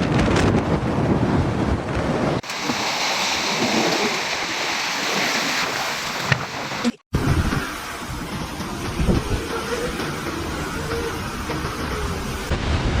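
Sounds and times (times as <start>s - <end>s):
rumbling wind: 0.0s - 13.0s
driving rain and rushing water: 2.3s - 13.0s.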